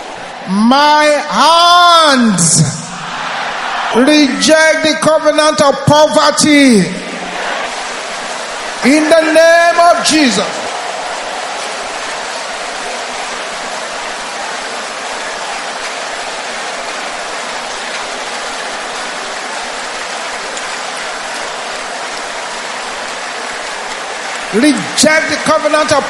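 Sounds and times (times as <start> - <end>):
congregation praying aloud: 0.0 - 26.0.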